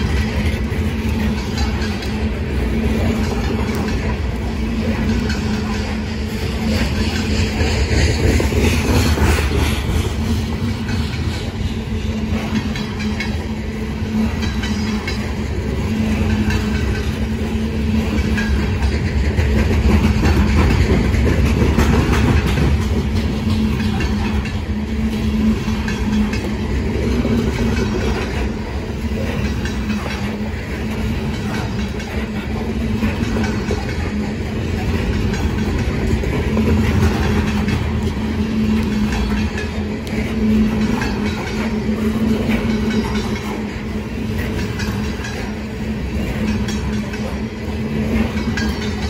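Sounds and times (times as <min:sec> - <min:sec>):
freight train wheels rumbling on rails: 0:00.0 - 0:49.0.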